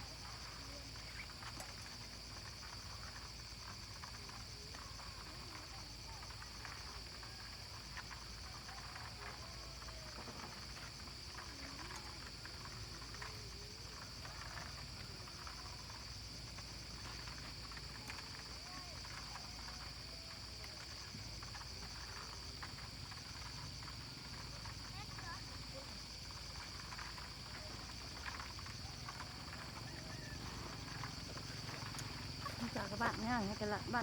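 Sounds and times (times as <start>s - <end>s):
insects buzzing and trilling: 0.0s - 34.0s.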